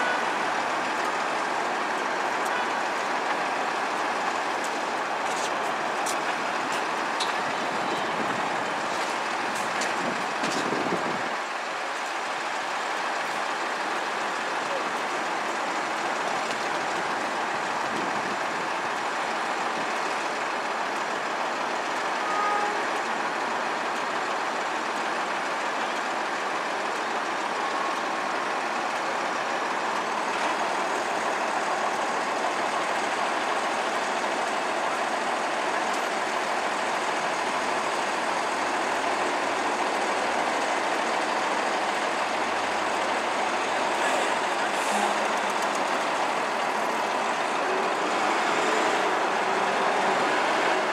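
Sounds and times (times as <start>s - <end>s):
bus engine idling: 0.0s - 50.9s.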